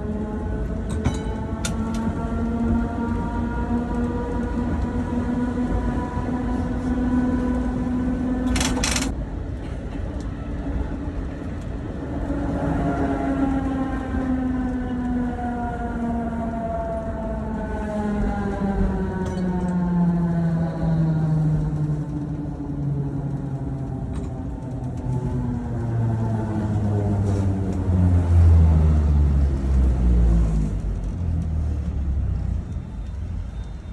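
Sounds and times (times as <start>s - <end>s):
tram motors humming: 0.0s - 33.9s.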